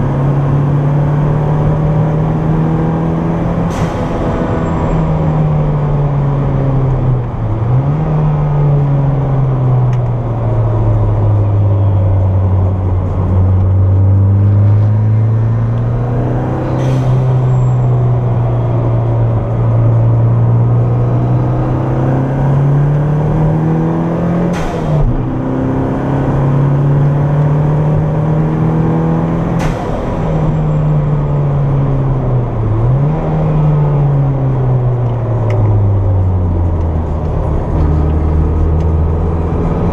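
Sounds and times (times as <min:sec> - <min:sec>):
car engine under throttle: 0:00.0 - 0:39.9.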